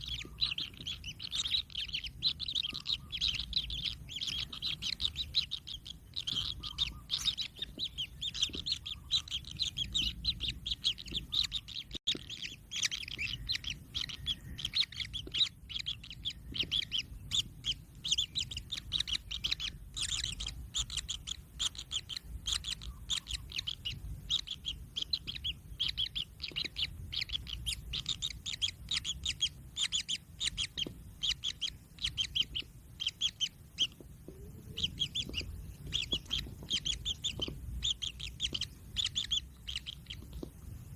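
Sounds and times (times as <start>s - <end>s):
chicks chirping rapidly: 0.0s - 40.9s.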